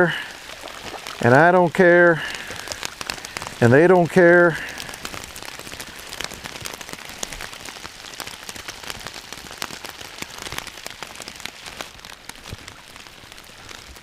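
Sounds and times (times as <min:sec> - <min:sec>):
rain falling: 0:00.0 - 0:14.0
raindrops hitting close by: 0:00.0 - 0:14.0.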